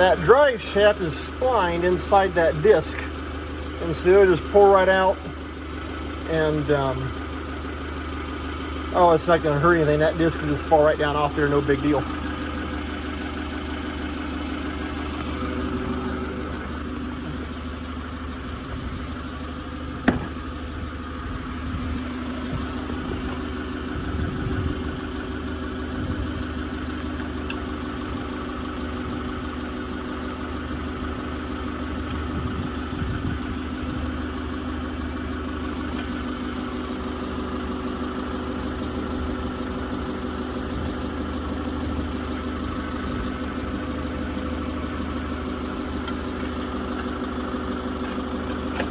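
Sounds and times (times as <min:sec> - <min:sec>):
forklift engine idling: 0:00.0 - 0:48.9.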